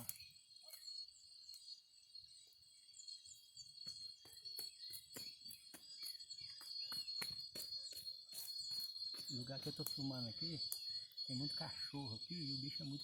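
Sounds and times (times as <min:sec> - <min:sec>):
campfire twigs crackling: 0:00.0 - 0:02.0, 0:03.6 - 0:13.0
insects trilling: 0:00.0 - 0:13.0.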